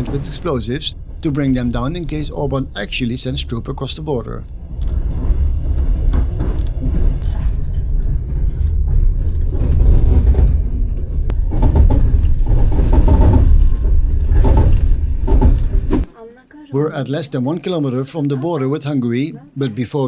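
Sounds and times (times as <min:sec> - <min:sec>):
train low rumble: 0:00.0 - 0:16.2.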